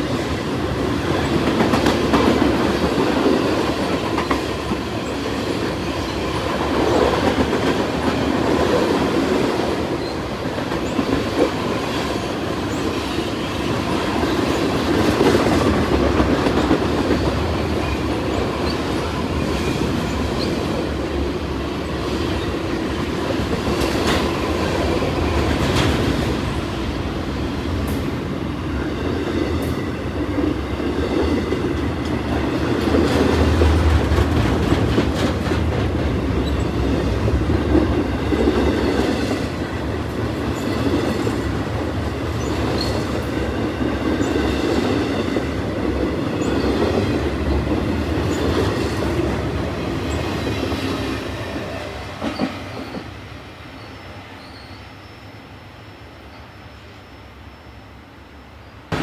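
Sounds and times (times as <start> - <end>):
train wheels rumbling and clacking: 0.0 - 54.6.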